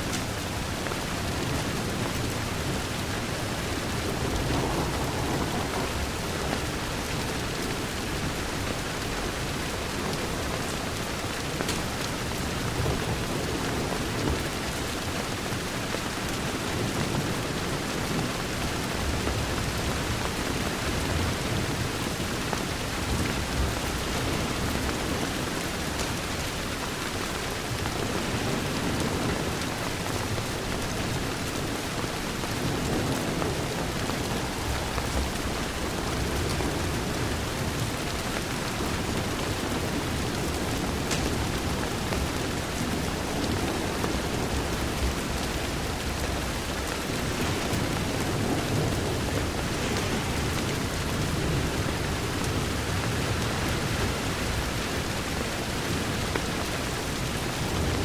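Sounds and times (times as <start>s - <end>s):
heavy rain on a window: 0.0s - 58.0s.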